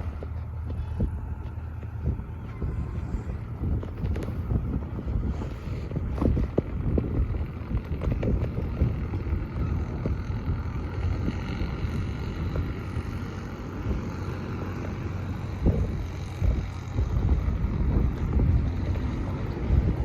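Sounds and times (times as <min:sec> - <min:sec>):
diesel dozer engine running: 0:00.0 - 0:20.0.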